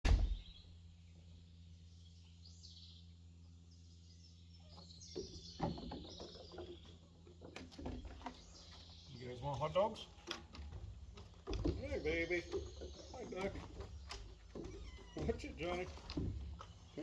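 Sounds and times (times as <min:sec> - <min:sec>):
birds chirping: 0:00.1 - 0:17.0.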